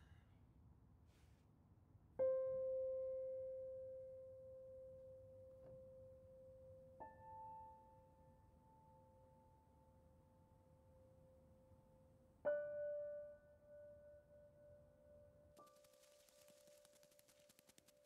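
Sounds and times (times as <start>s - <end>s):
soft piano notes: 2.2s - 17.1s.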